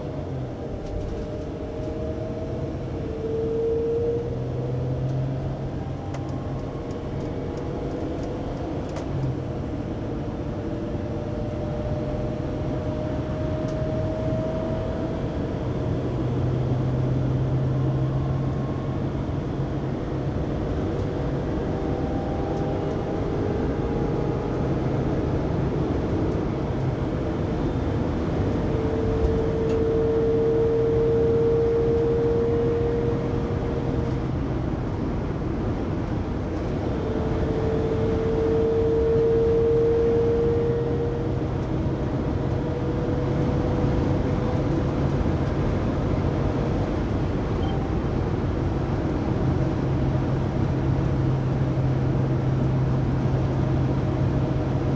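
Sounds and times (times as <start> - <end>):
road and drivetrain noise: 0.0 - 54.9.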